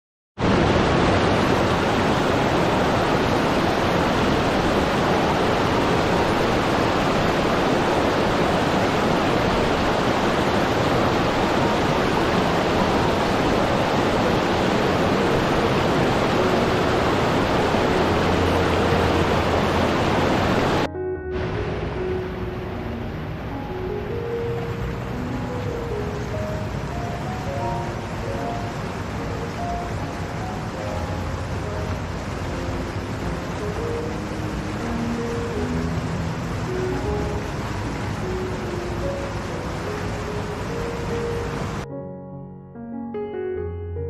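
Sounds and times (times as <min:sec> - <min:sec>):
waterfall rushing over rocks: 0:00.4 - 0:41.8.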